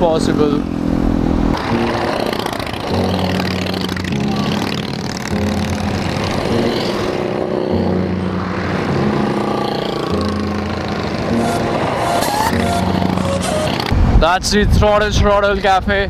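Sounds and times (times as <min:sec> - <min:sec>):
motorcycles riding past: 0:00.0 - 0:14.0
low two-pitch drone: 0:00.0 - 0:14.1.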